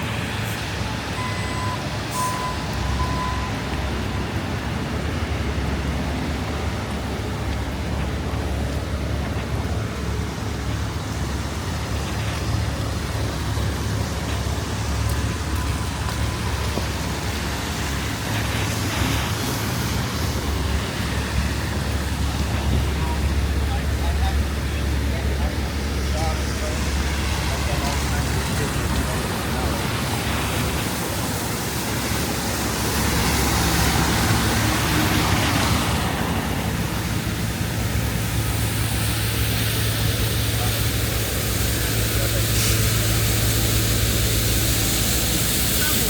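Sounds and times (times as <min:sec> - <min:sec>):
city street noise: 0:00.0 - 0:46.0
low engine hum: 0:00.0 - 0:46.0.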